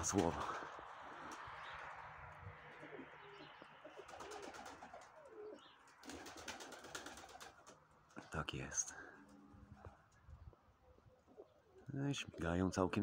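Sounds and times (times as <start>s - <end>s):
pigeons cooing: 0.0s - 7.8s, 9.2s - 13.0s.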